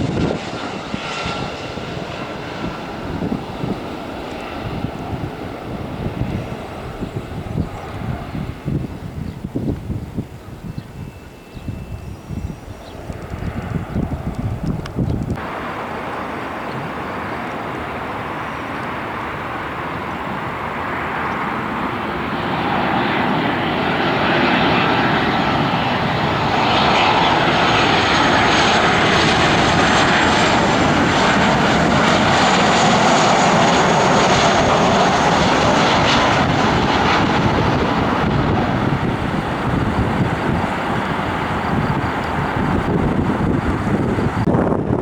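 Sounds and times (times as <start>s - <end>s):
airplane engine passing: 0.0s - 45.0s.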